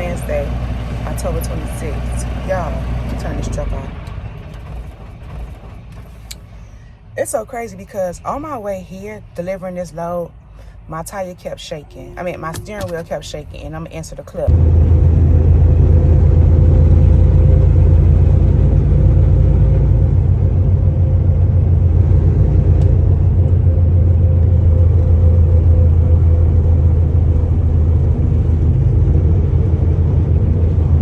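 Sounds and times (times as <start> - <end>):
truck engine rumbling: 0.0 - 31.0.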